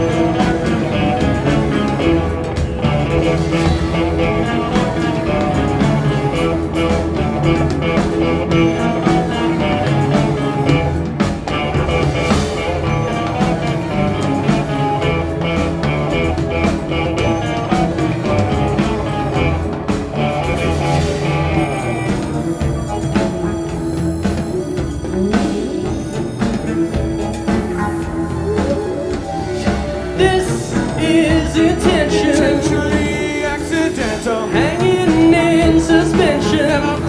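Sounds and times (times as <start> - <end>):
drum kit steady beat: 0.0 - 37.0
electric guitar: 0.0 - 37.0
rock band playing: 0.0 - 37.0.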